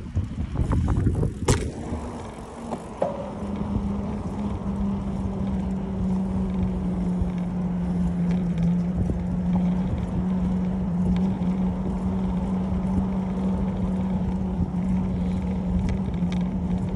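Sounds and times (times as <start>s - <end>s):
bicycle rolling on asphalt: 0.0s - 16.9s
steady low hum: 0.0s - 16.9s
wind rumble on microphone: 0.0s - 16.9s.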